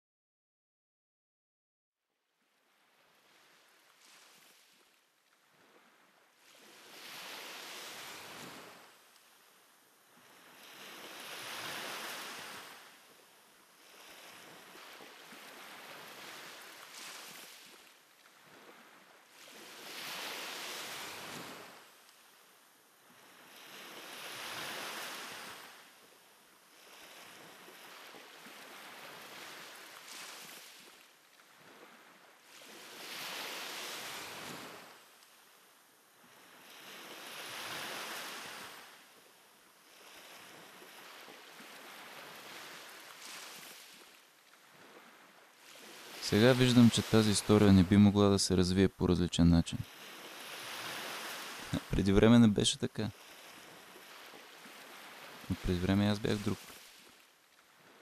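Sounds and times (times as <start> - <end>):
small waves washing onto beach: 2.4 - 58.0.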